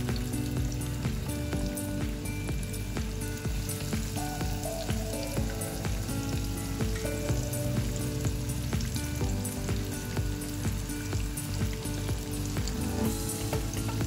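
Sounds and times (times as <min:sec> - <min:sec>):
background music with held notes: 0:00.0 - 0:14.0
chicken sizzling in hot oil: 0:00.0 - 0:14.0.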